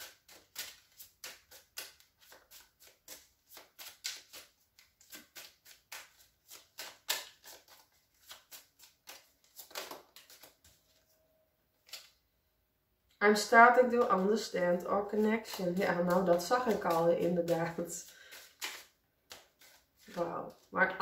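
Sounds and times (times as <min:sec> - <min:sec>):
cards being shuffled by hand: 0:00.0 - 0:11.0, 0:13.8 - 0:20.8.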